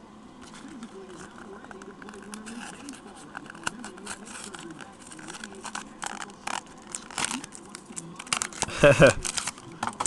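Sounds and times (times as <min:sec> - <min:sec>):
foil wrapper crinkling and tearing: 0:00.4 - 0:10.0.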